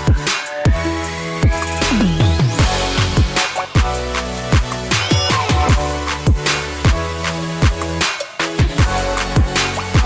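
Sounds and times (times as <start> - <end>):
electronic hip-hop music: 0.0 - 10.0.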